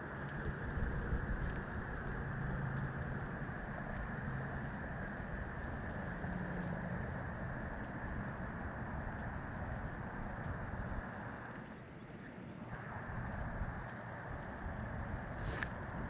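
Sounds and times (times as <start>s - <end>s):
faint low hum: 0.0s - 16.0s
outdoor rumble and hiss: 0.0s - 16.0s.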